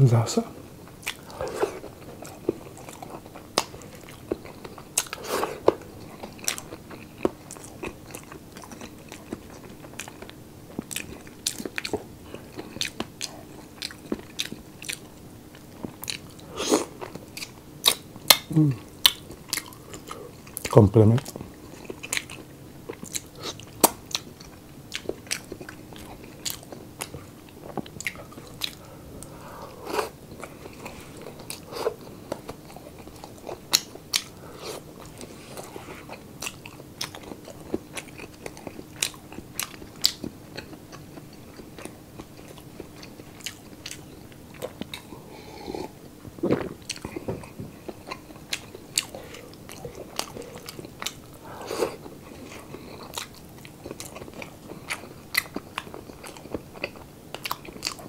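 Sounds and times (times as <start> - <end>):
crunchy chewing: 1.0 - 58.0.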